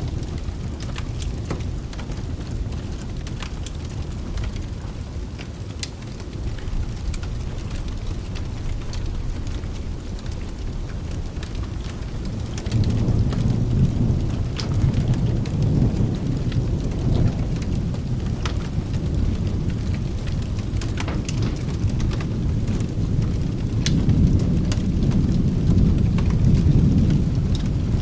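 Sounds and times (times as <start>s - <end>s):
rolling thunder rumble: 0.0s - 5.4s, 6.2s - 28.0s
steady rain: 0.0s - 28.0s.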